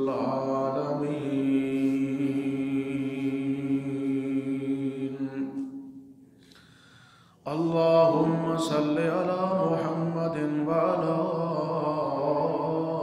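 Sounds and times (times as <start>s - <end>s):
man chanting over microphone: 0.0s - 5.6s, 7.5s - 13.0s.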